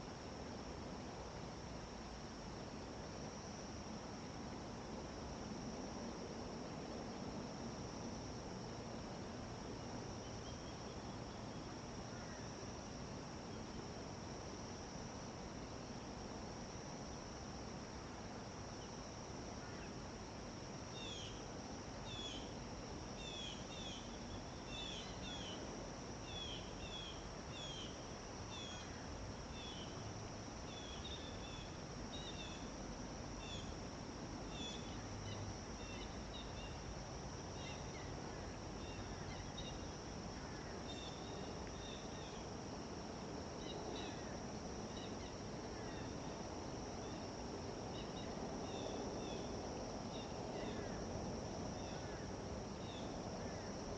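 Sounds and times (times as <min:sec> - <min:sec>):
background hiss: 0:00.0 - 0:53.9.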